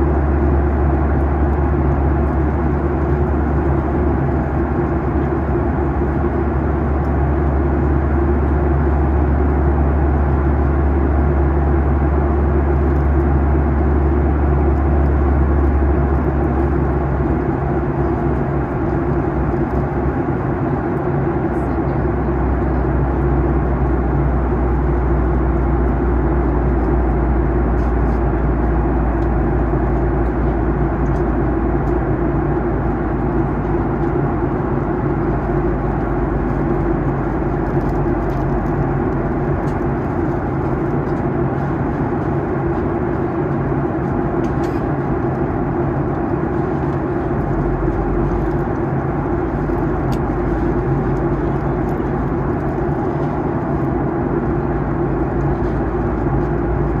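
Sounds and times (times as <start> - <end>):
airflow rush in plane cabin: 0.0 - 57.0
jet engines droning: 0.0 - 57.0.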